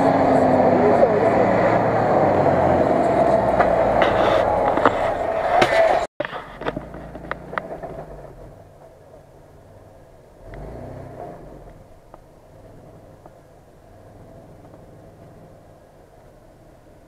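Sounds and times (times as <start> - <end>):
car engine running: 0.0 - 17.0
faint low car engine: 0.0 - 17.0.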